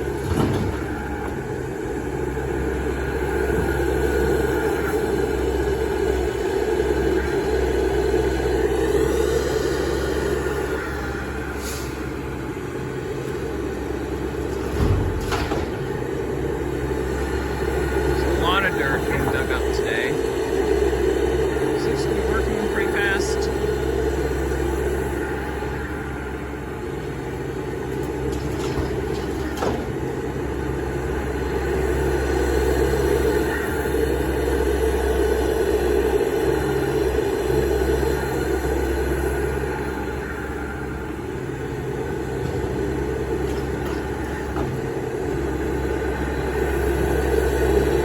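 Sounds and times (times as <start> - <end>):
diesel engines running: 0.0 - 48.0.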